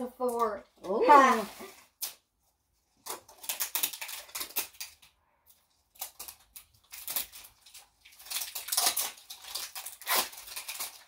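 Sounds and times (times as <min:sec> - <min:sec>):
plastic wrapping crinkling and tearing: 0:00.2 - 0:11.0.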